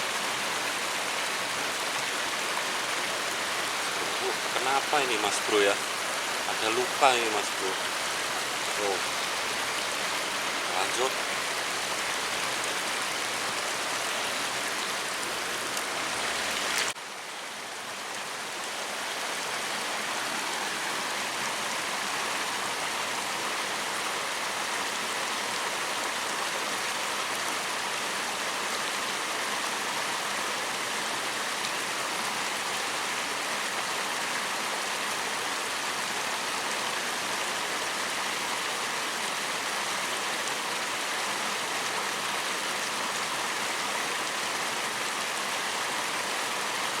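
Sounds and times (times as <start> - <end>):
stream water rushing: 0.0 - 47.0.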